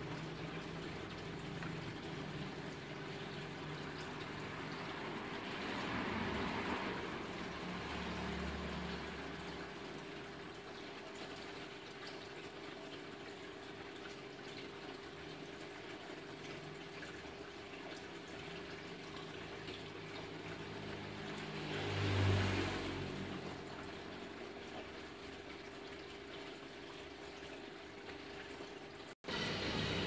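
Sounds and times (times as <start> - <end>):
aquarium air bubbler: 0.0 - 30.0.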